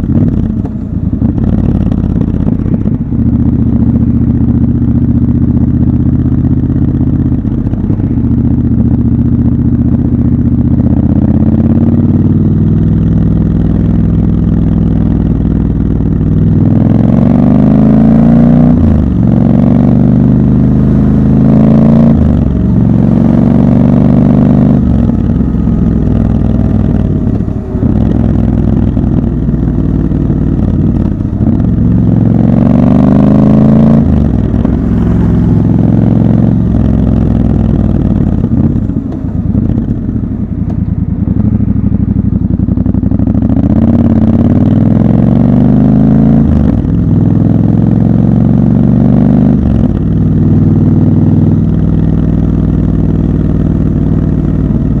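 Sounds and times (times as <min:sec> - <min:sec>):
motorcycle engine revving through gears: 0:00.0 - 0:55.0.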